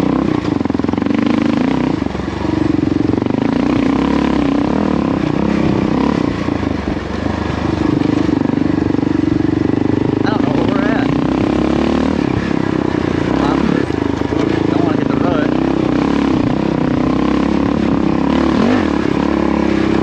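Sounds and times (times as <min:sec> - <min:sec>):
motorcycle engine under load: 0:00.0 - 0:20.0.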